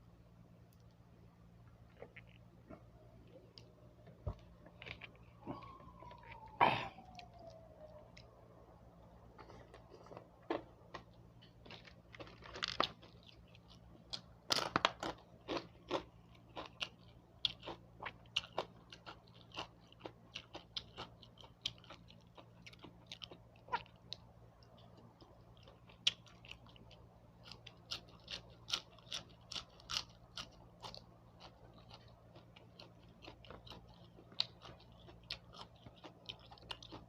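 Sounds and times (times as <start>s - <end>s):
person chewing crunchy food: 1.7s - 8.4s, 9.3s - 37.0s.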